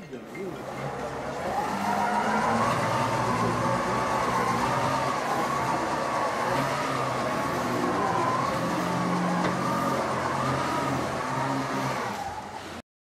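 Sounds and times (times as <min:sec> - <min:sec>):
electric motors whining: 0:00.4 - 0:12.8.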